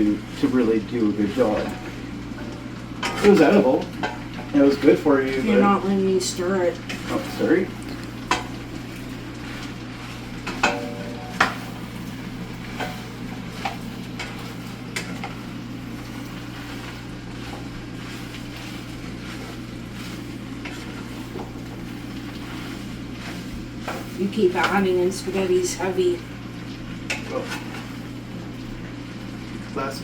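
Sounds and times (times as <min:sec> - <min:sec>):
pan sizzling and humming: 0:00.0 - 0:30.0.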